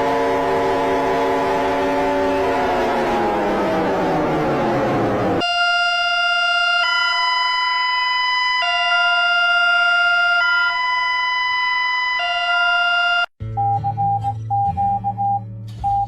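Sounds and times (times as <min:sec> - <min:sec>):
two-note electronic alarm tone: 0:00.0 - 0:13.3.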